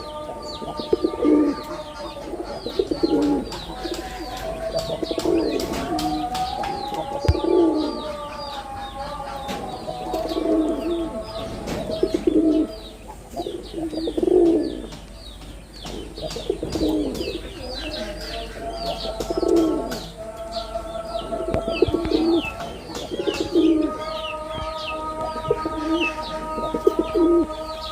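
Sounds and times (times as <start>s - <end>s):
high bird chirping: 0.0s - 27.9s
pigeons cooing: 0.0s - 27.9s.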